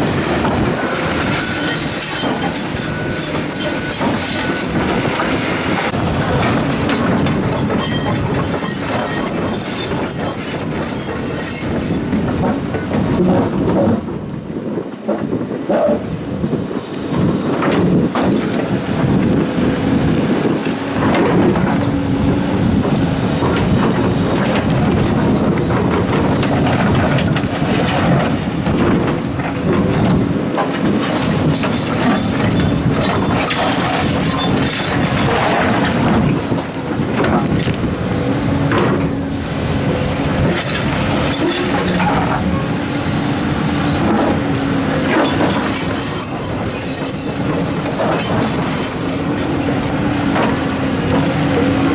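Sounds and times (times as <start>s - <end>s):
hydraulic whine: 0.0s - 13.7s, 17.2s - 51.9s
excavator engines under load: 0.0s - 51.9s.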